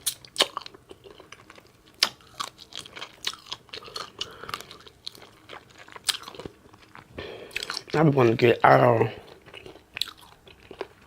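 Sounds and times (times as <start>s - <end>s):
open-mouth chewing and crunching: 0.0s - 11.0s.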